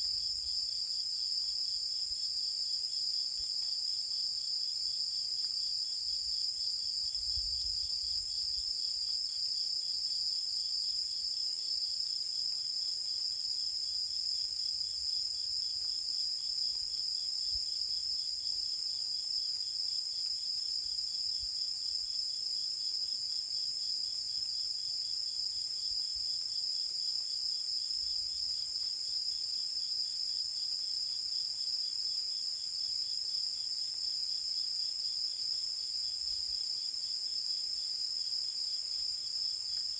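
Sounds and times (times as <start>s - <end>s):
low fast pulsing insect chirp: 0.0s - 39.9s.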